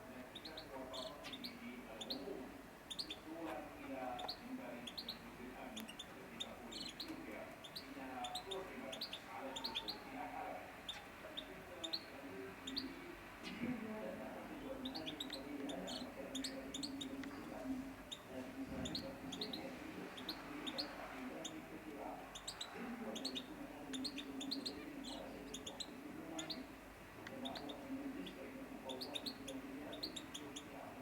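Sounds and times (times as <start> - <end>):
canaries chirping: 0.0 - 31.0.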